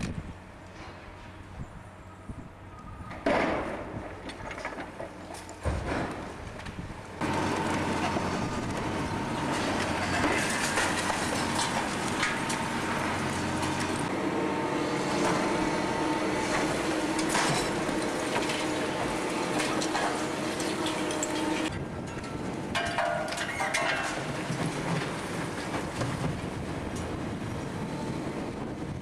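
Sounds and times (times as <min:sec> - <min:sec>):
excavator engine and hydraulic whine: 0:00.0 - 0:29.0.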